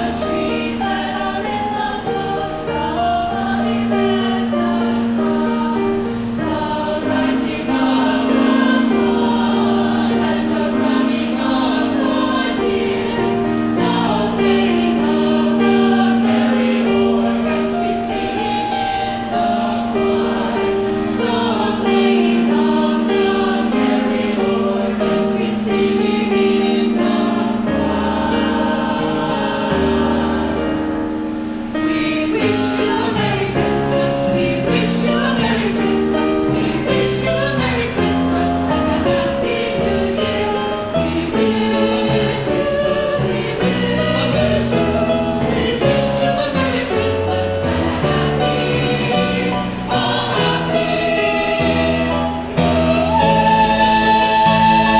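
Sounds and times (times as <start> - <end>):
choir singing: 0.0 - 54.9.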